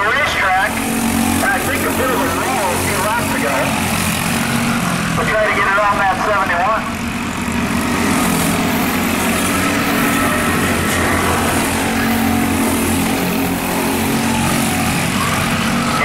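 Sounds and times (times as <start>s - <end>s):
continuous rush of noise: 0.0s - 16.0s
go-kart engines droning: 0.0s - 16.0s.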